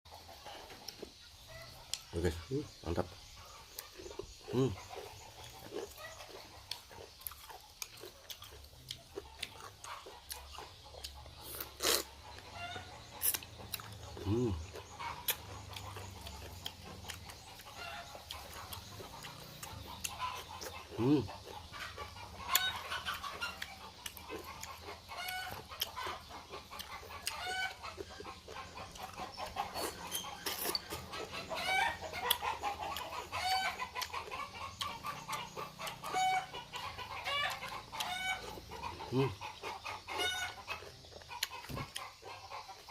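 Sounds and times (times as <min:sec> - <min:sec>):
chickens clucking: 0:00.1 - 0:42.9
person chewing crunchily: 0:00.3 - 0:42.9.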